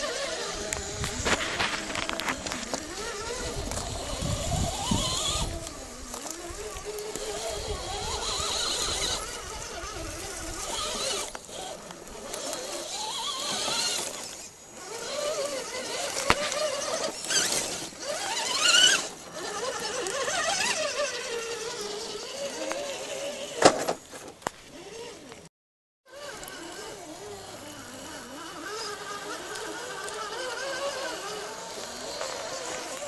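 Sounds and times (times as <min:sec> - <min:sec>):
electric motor and gears whining: 0:00.0 - 0:25.5, 0:26.1 - 0:33.0.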